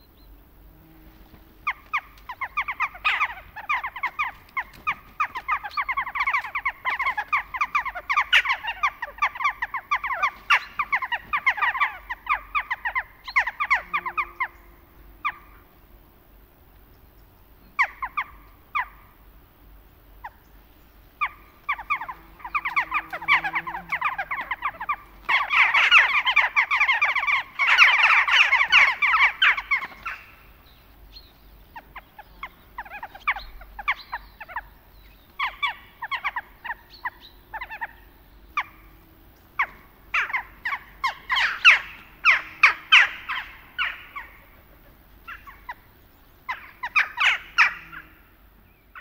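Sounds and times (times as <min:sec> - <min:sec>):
jackdaws calling: 0:01.6 - 0:15.7, 0:17.8 - 0:19.2, 0:20.2 - 0:49.0.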